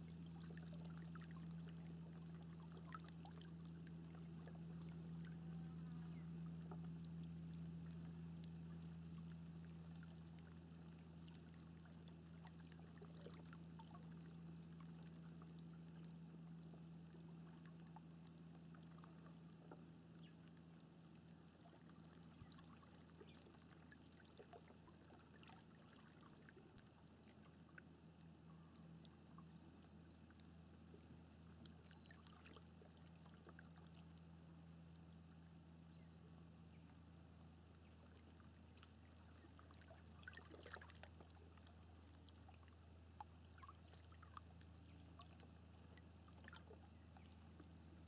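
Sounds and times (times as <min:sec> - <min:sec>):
water lapping: 0:00.0 - 0:36.1, 0:36.8 - 0:48.0
low hum: 0:00.0 - 0:48.0.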